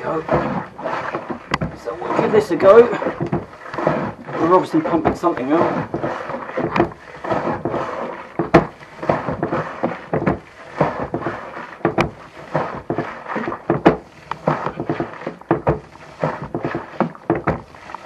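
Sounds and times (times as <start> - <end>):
hand bilge pump knocking: 0.0 - 18.0
rough watery wash: 0.0 - 18.0.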